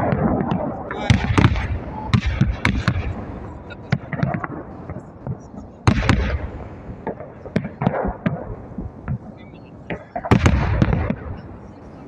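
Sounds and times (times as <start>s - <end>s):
fireworks bangs with rumbling echo: 0.0s - 12.0s.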